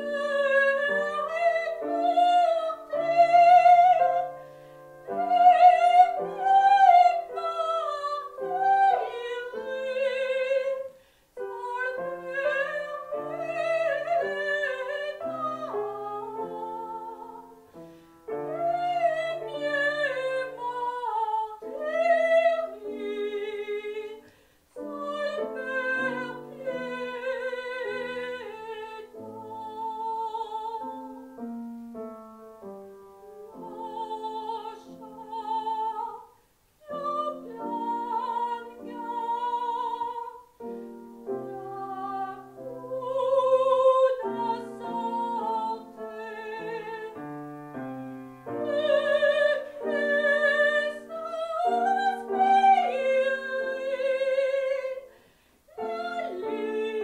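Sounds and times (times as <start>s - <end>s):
woman singing operatically: 0.0s - 4.4s, 5.0s - 17.7s, 18.3s - 31.3s, 33.4s - 40.6s, 41.2s - 47.2s, 48.5s - 55.1s, 55.7s - 57.0s
piano accompaniment: 0.0s - 57.0s.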